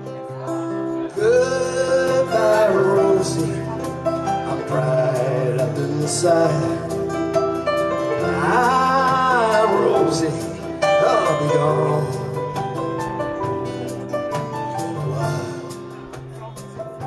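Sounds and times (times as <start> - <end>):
acoustic country band playing: 0.0 - 17.0
bending lead melody: 0.0 - 17.0.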